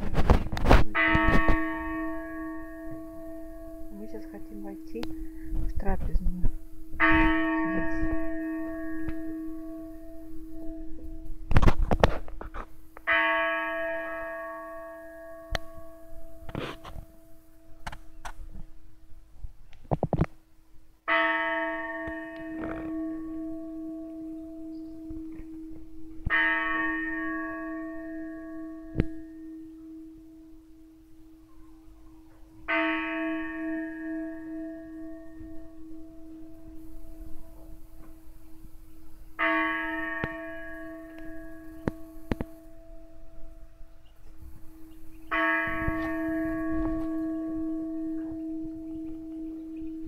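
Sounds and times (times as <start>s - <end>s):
large church bell tolling: 0.0s - 17.9s, 21.1s - 50.0s.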